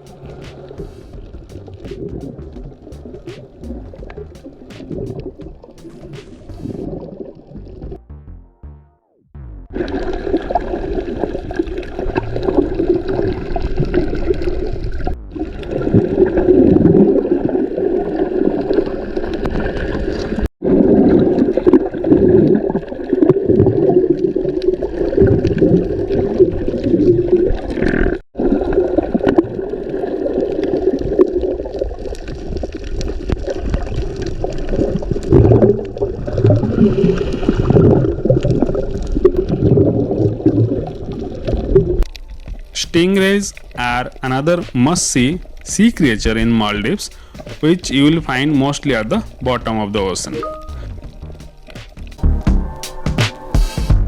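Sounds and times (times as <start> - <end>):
muffled underwater water rushing: 0.0 - 8.2, 9.6 - 54.0.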